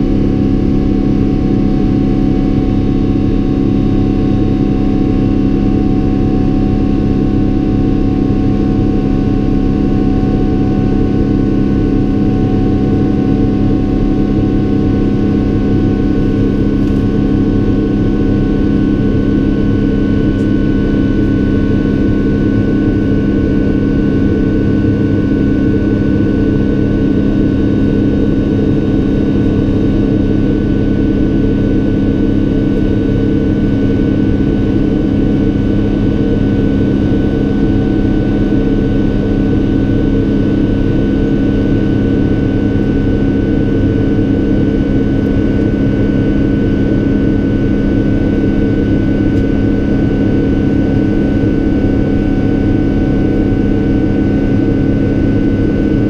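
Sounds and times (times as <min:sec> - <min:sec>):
jet engine drone in cabin: 0:00.0 - 0:56.0
steady high whine: 0:00.0 - 0:56.0.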